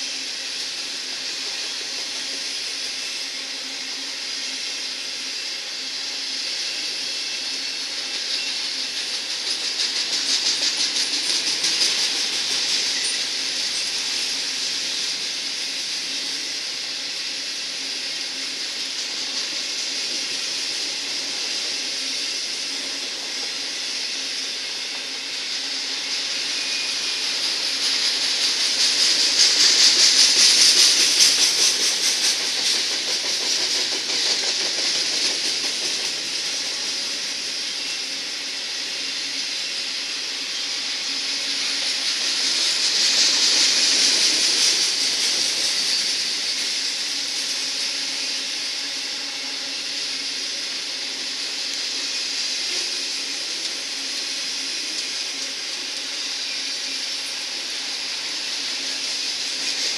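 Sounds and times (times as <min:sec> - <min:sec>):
freight cars rolling on rails: 0:00.0 - 0:59.9.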